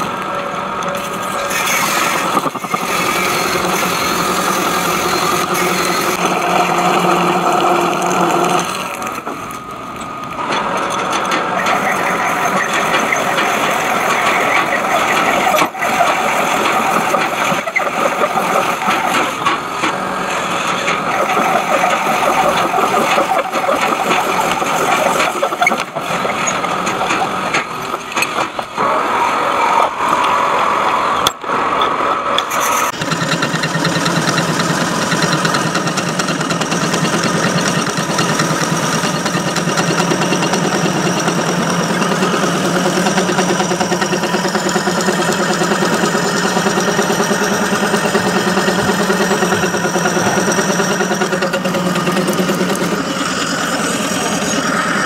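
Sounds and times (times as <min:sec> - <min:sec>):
metal lathe running: 0:00.0 - 0:31.0, 0:32.4 - 0:55.0
boring tool cutting metal: 0:00.8 - 0:28.8, 0:32.4 - 0:55.0.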